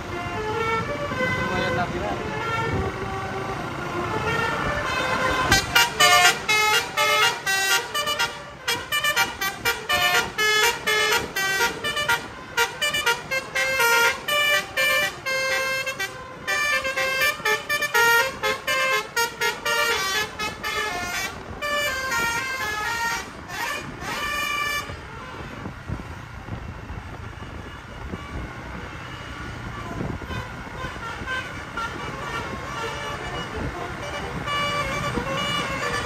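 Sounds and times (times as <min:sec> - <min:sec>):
musical bus horn tooting melody: 0:00.0 - 0:36.0.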